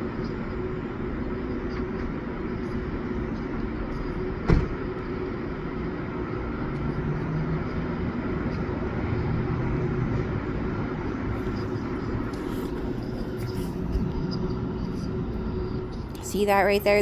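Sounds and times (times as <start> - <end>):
mechanical hum and rumble: 0.0 - 17.0.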